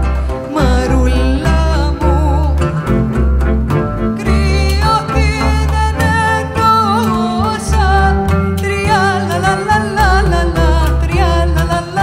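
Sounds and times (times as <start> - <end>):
acoustic folk ensemble playing: 0.0 - 12.0.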